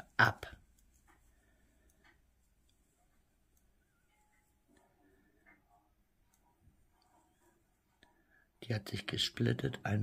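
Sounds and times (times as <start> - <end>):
knitting needles ticking: 0.0 - 9.9.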